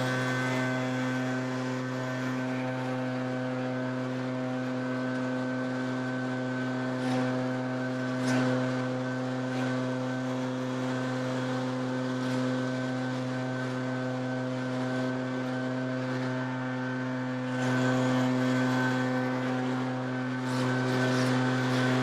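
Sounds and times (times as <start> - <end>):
leaf blower running: 0.0 - 22.0.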